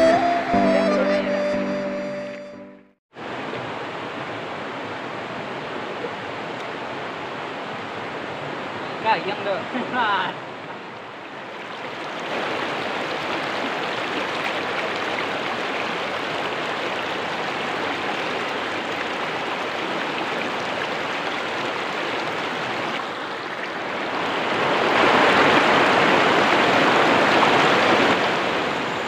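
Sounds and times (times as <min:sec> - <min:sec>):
river water rushing: 0:03.2 - 0:29.0.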